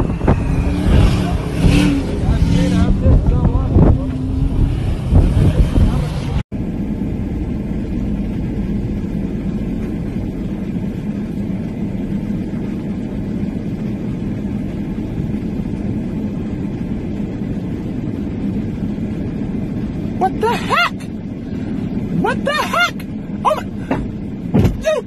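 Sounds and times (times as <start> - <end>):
car cabin rumble: 0.0 - 25.0.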